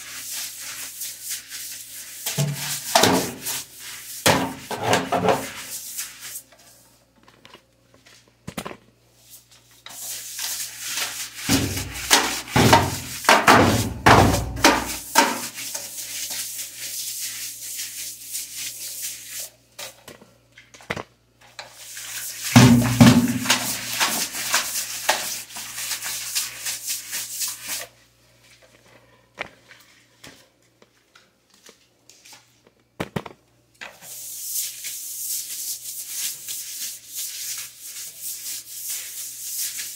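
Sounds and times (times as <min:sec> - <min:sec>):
broom scrubbing wet tiled floor: 0:00.0 - 0:08.3, 0:09.1 - 0:20.2, 0:21.5 - 0:32.6, 0:33.8 - 0:39.9.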